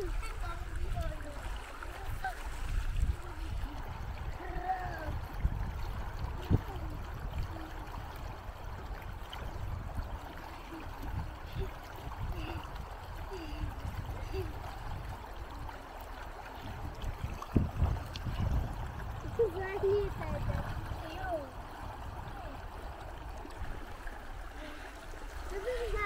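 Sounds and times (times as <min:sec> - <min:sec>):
feet splashing through water: 0:00.0 - 0:26.0.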